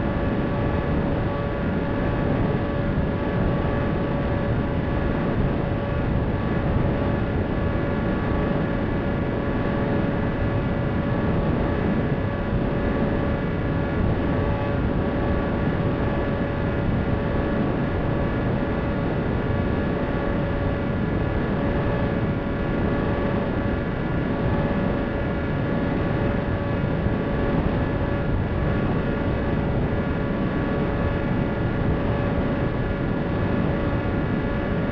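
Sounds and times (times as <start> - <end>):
electric motor and propeller whine: 0.0 - 34.9.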